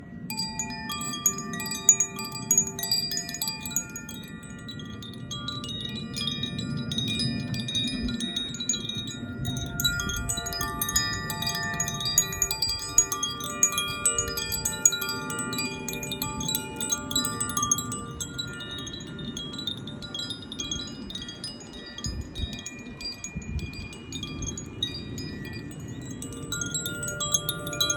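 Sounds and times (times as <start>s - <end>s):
wind chime tinkling: 0.0s - 27.9s.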